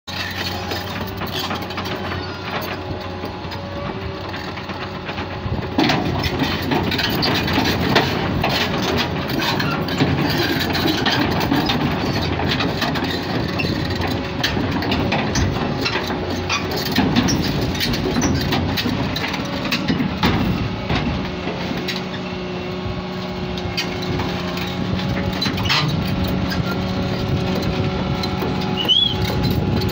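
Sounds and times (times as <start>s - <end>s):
excavator diesel engine running: 0.1s - 29.9s
steel tracks clanking: 0.1s - 29.9s.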